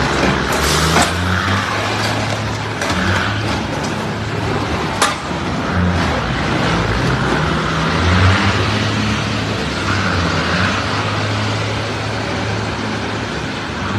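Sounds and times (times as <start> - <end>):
road noise: 0.0 - 13.9
truck engine running: 0.0 - 13.9.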